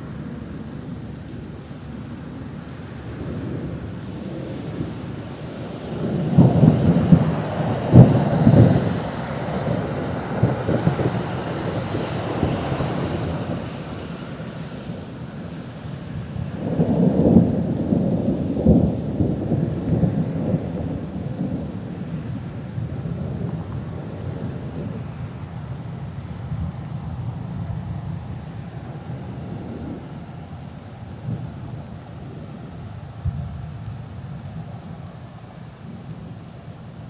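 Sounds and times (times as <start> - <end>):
thunder rumbling with sharp cracks: 2.9 - 34.7.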